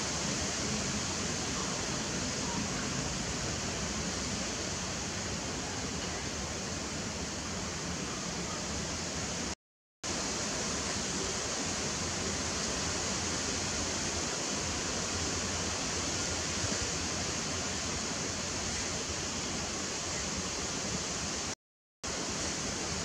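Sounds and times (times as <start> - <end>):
steady bright hiss: 0.0 - 23.0.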